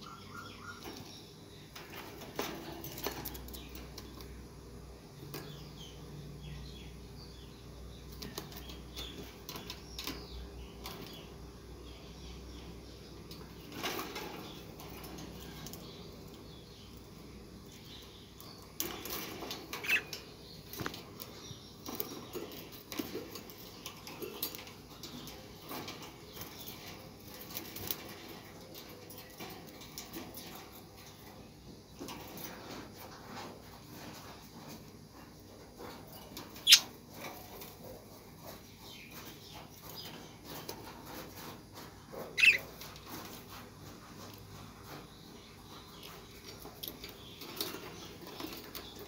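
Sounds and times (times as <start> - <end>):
clicks and rattles of cage bars: 0.7 - 4.3, 8.0 - 11.6, 12.6 - 49.0.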